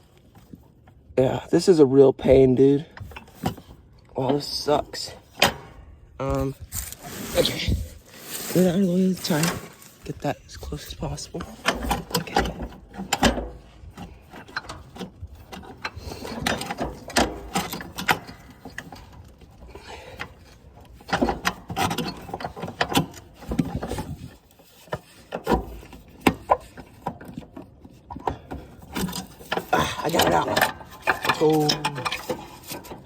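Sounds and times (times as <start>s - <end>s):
metallic clanks and scrapes: 3.0s - 33.0s.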